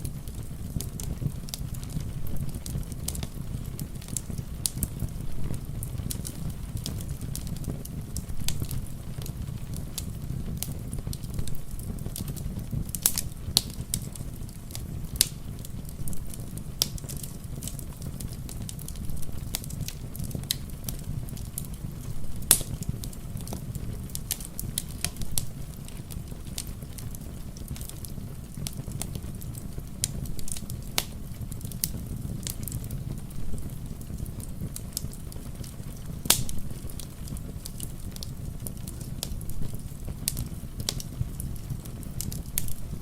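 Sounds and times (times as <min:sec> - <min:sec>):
low rumble of rain: 0:00.0 - 0:43.0
wood fire crackling and popping: 0:00.0 - 0:43.0.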